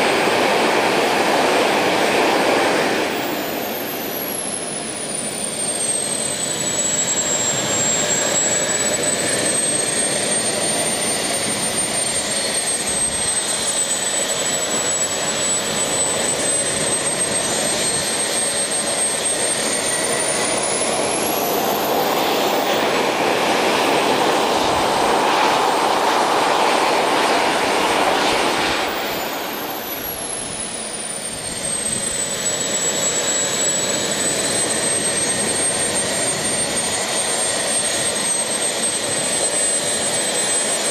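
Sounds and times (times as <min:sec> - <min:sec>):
jet turbine roar and whine: 0:00.0 - 0:40.9.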